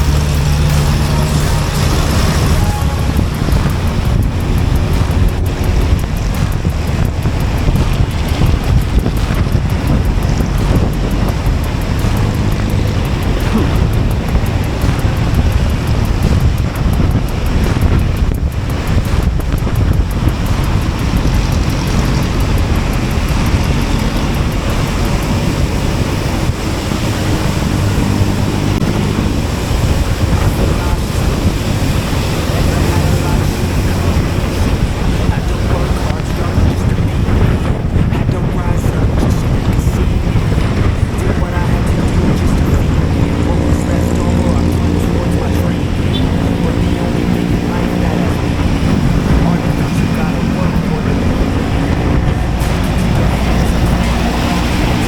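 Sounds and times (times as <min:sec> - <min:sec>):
scooter engine: 0:00.0 - 0:55.0
tyre road noise: 0:00.0 - 0:55.0
wind on microphone: 0:00.0 - 0:55.0.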